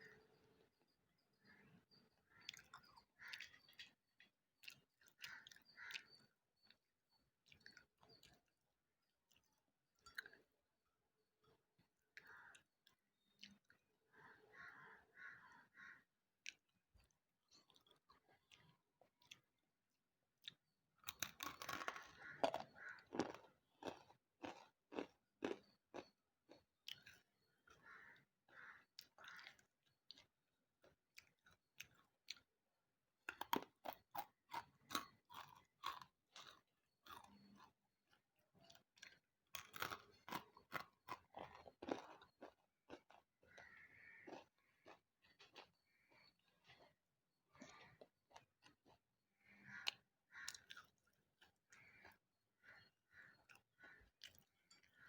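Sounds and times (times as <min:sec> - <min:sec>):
chewing gritty crunches: 0:01.9 - 0:10.6, 0:11.6 - 0:13.9, 0:16.4 - 0:19.6, 0:20.4 - 0:55.0.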